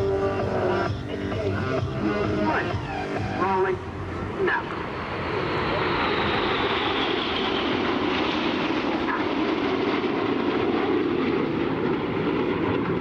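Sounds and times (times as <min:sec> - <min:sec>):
jets flying overhead: 0:00.0 - 0:13.0.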